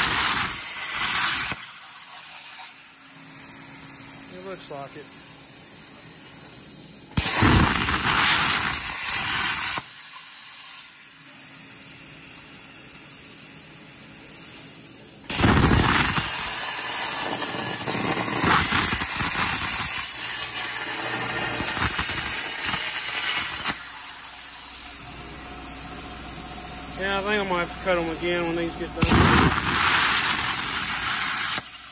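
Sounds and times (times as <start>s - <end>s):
plasma cutter arc hissing: 0.0s - 31.9s.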